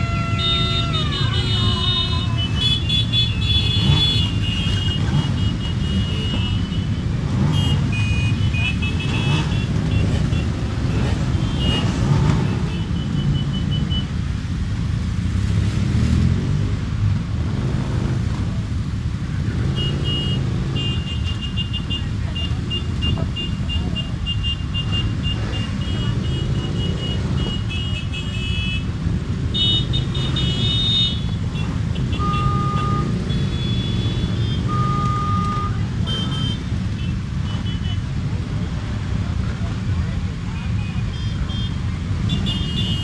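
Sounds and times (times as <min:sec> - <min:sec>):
motorcycle engines droning: 0:00.0 - 0:43.0.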